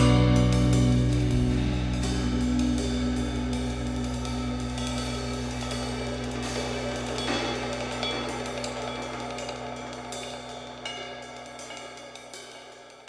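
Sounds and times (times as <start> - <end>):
music with drum kit and cymbals: 0.0 - 13.0.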